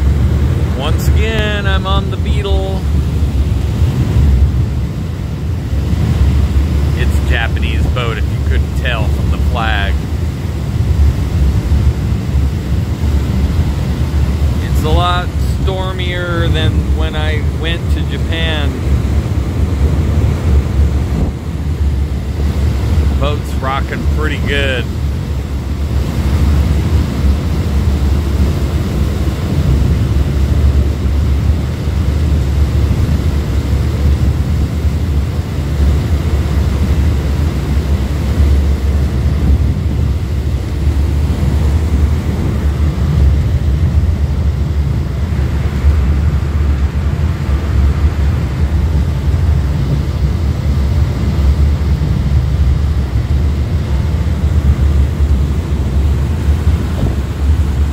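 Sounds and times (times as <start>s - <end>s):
ferry engine running: 0.0s - 57.9s
rush of churning wake: 0.0s - 57.9s
wind buffeting microphone: 0.0s - 57.9s.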